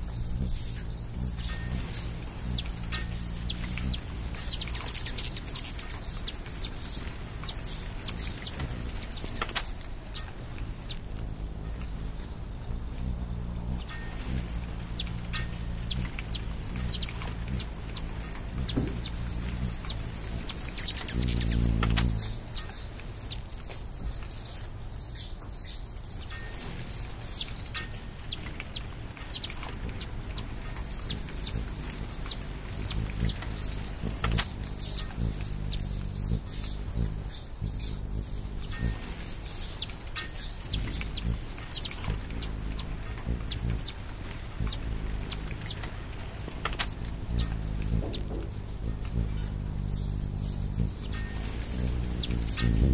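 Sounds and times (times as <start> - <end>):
high-pitched insect trill: 0.0 - 52.9.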